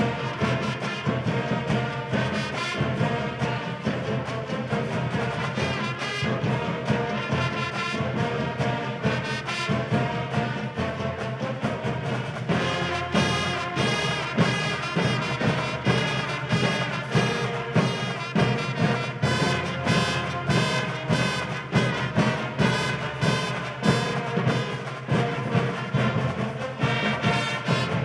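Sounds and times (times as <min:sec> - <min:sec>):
brass band playing: 0:00.0 - 0:28.0
steady drum beat: 0:00.0 - 0:28.0.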